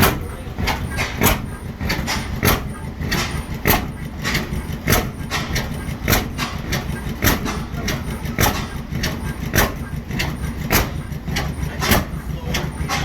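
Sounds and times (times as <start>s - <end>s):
hit-and-miss engine beating: 0.0s - 13.0s.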